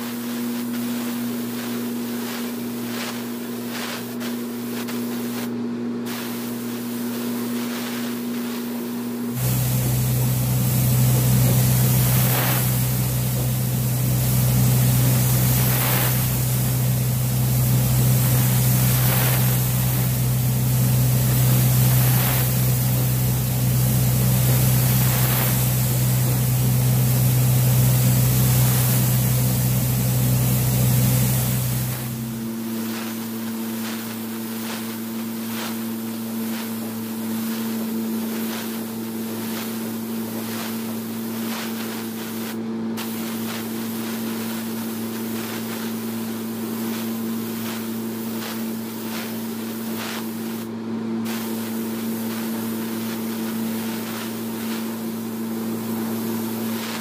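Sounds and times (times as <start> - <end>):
machine hum: 0.0 - 53.9
spray gun air hissing: 0.0 - 57.0.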